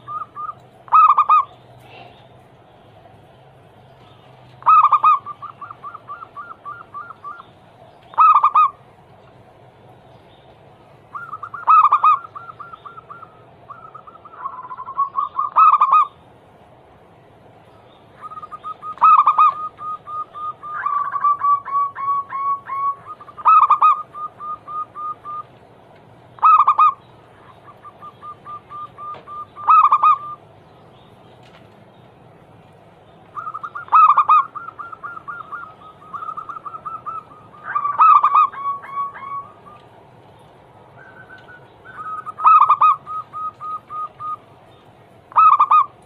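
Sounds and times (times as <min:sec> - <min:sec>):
doves cooing: 0:00.0 - 0:16.3, 0:17.9 - 0:31.9, 0:32.9 - 0:46.0.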